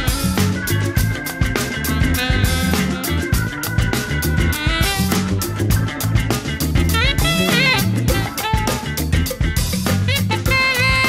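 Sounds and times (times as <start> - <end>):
music with drum beat and melody: 0.0 - 11.0.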